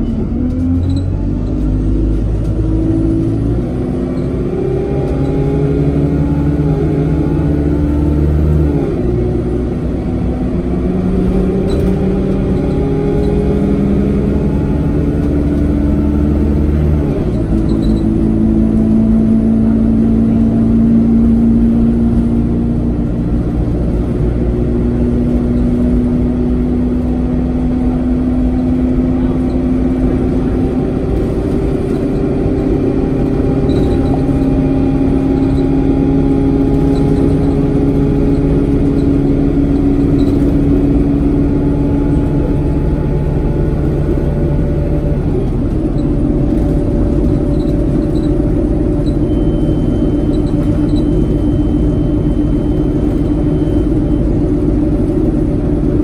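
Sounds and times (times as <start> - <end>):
bus diesel engine under load: 0.0 - 56.0
road noise rumble: 0.0 - 56.0
humming tone: 10.0 - 56.0.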